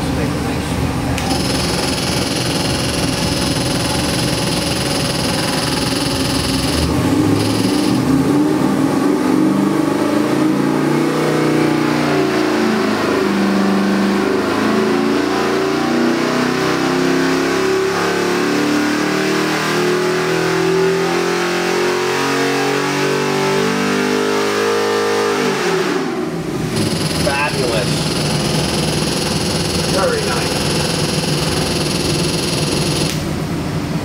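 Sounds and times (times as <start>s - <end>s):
engine revving upward under load: 5.2s - 33.2s.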